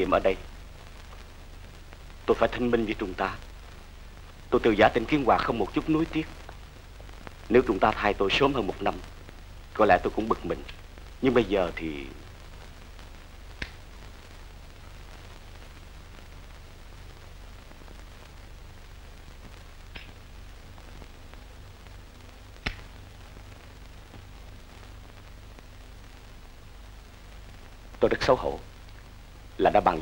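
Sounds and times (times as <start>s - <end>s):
low hum and faint hiss: 0.0s - 30.0s.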